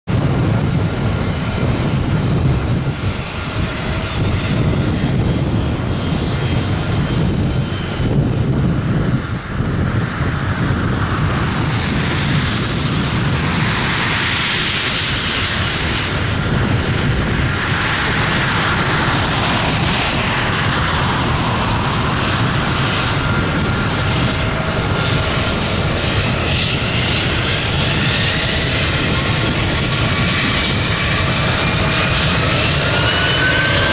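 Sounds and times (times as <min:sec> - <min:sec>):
jet engines at takeoff power: 0:00.0 - 0:33.9.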